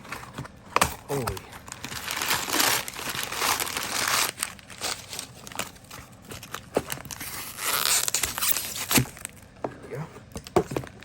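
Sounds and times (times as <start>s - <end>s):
packaging crinkling and rustling: 0.0s - 9.5s.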